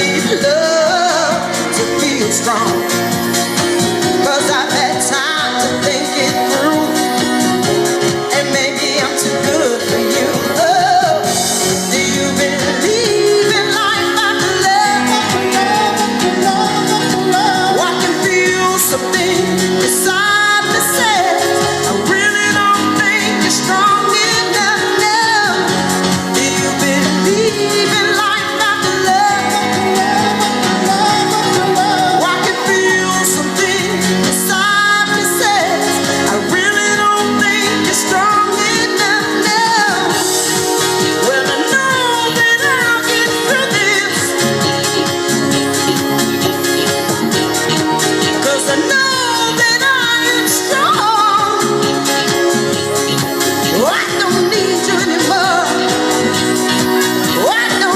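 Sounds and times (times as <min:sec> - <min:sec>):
instrumental accompaniment: 0:00.0 - 0:57.9
person singing: 0:00.0 - 0:57.9.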